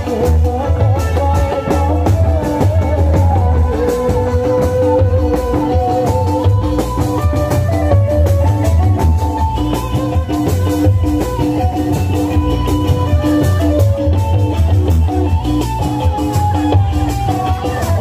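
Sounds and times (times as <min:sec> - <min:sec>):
heavy drum and bass beat: 0:00.0 - 0:18.0
loud amplified band music: 0:00.0 - 0:18.0.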